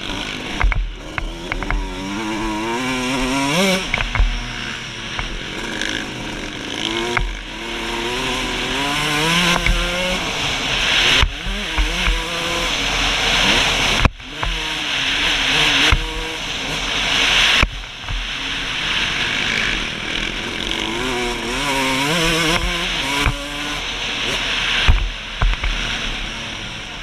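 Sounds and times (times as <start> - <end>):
two-stroke motorcycle engine revving: 0.0 - 27.0.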